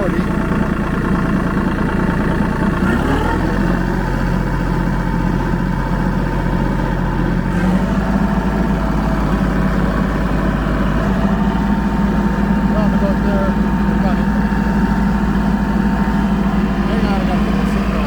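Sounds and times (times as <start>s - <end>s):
rotary mower running: 0.0s - 18.0s
tractor diesel engine running: 0.0s - 18.0s.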